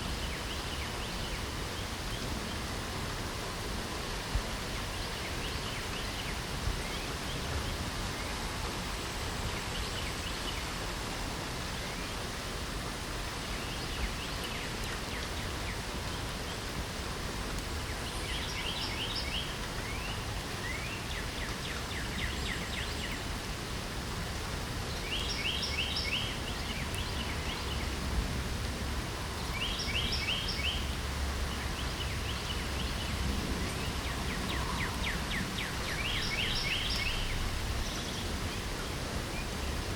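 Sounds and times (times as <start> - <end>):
songbird singing: 0.0 - 2.8, 4.0 - 10.8, 13.3 - 16.9, 17.6 - 23.5, 24.8 - 28.5, 29.2 - 39.9
rain hiss: 0.0 - 39.9.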